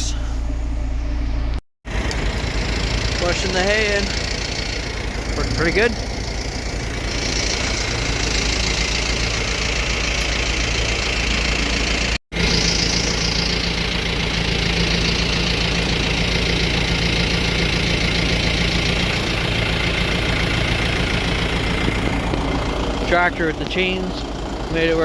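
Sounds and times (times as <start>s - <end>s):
tractor engine under load: 0.0s - 25.0s.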